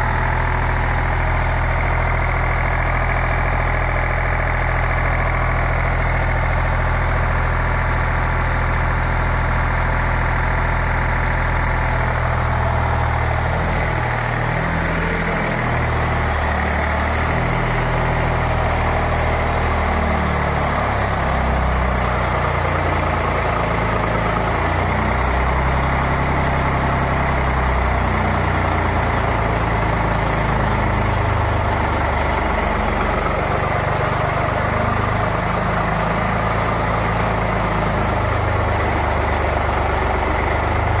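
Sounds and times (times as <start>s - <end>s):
diesel generator engine running: 0.0s - 41.0s.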